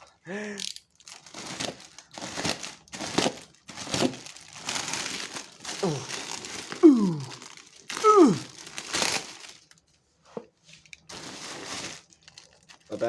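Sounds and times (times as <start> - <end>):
wrapping crinkling and tearing: 0.7 - 10.0, 10.7 - 13.0.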